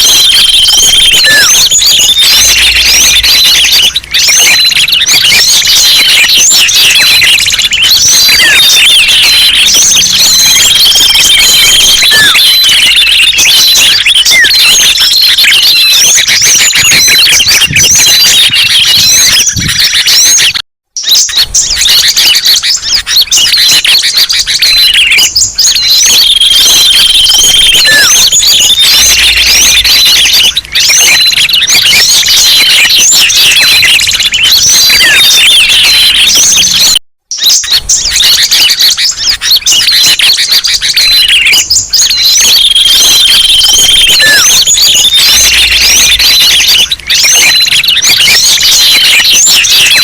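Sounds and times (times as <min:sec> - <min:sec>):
songbirds chirping: 0:00.0 - 0:50.0.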